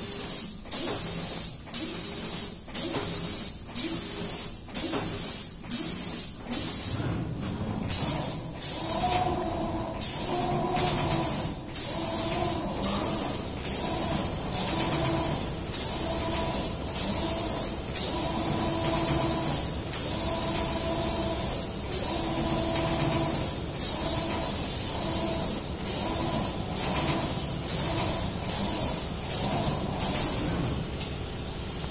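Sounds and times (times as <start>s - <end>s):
spray gun hissing: 0.0s - 6.9s, 7.9s - 30.5s.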